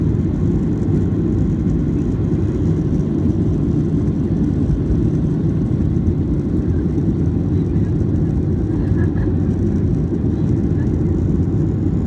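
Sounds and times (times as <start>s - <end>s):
airplane engine drone in cabin: 0.0s - 12.0s.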